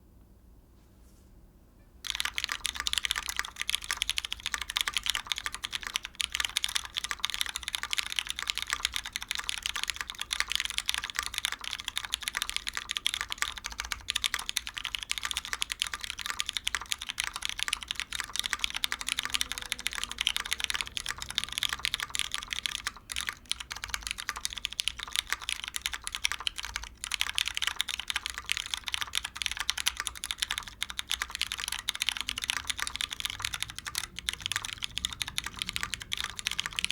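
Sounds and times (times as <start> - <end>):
fast typing on mechanical keyboard: 2.0 - 36.9.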